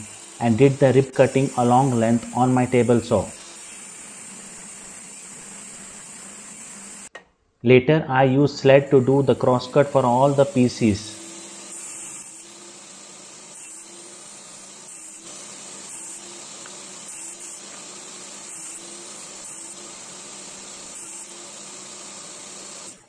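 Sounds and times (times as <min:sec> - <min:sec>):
table saw whine and hiss: 0:00.0 - 0:07.1, 0:09.0 - 0:23.0.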